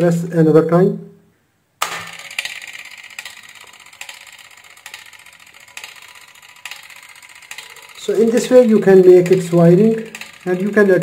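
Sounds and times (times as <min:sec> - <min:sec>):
escapement ticking rapidly: 0:02.1 - 0:11.0.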